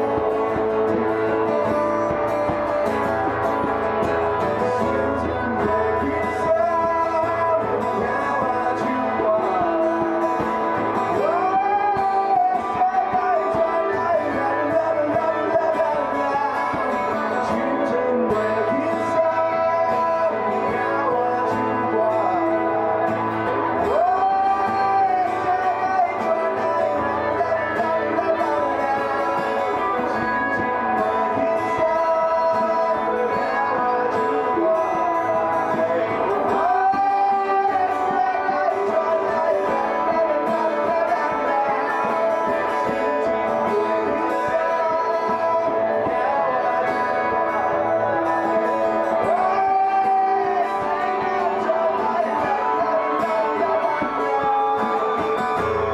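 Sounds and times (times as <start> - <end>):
man singing into microphone: 0.0 - 55.9
strummed guitars: 0.0 - 55.9.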